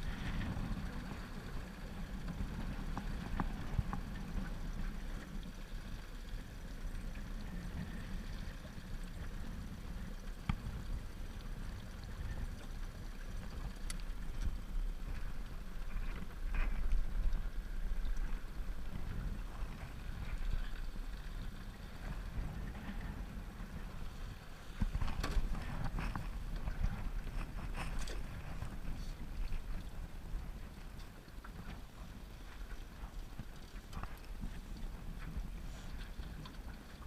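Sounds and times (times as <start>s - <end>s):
boat motor rumbling: 0.0s - 37.0s
water washing along hull: 0.0s - 37.0s.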